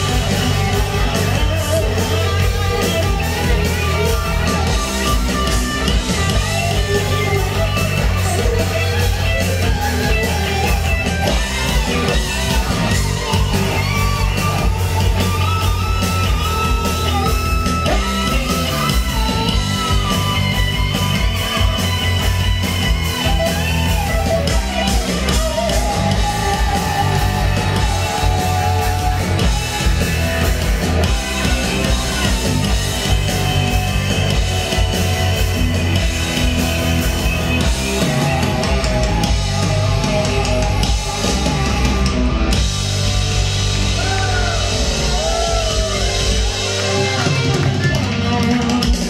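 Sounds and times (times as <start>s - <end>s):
bass guitar: 0.0s - 49.0s
drum kit: 0.0s - 49.0s
electric guitars: 0.0s - 49.0s.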